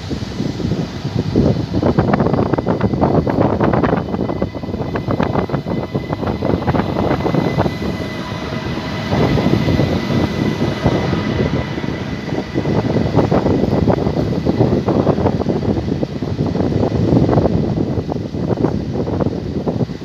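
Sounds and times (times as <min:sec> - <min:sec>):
faint high whine: 0:00.0 - 0:20.0
train rumbling past: 0:00.0 - 0:20.0.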